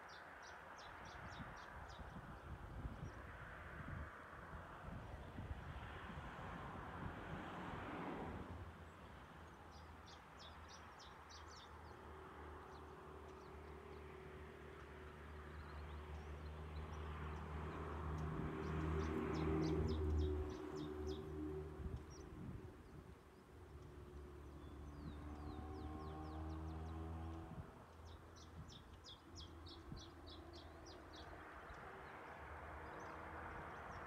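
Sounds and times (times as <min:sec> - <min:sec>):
distant engine hum: 0:06.0 - 0:34.0.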